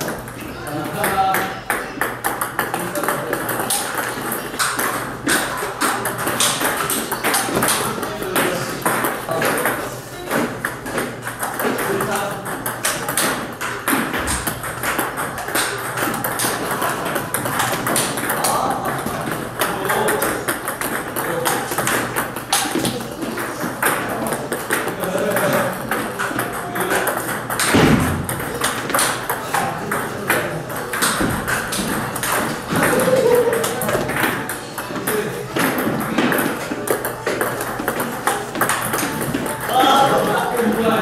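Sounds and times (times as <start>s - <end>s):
ball bouncing on table: 0.0s - 40.9s
table tennis ball on paddles: 0.0s - 41.0s.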